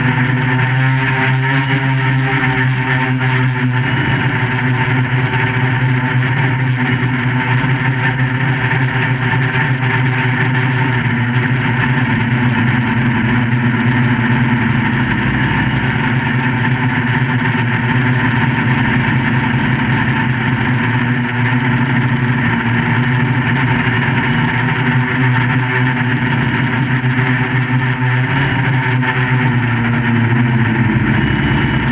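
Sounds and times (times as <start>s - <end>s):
drone motors humming: 0.0s - 31.9s.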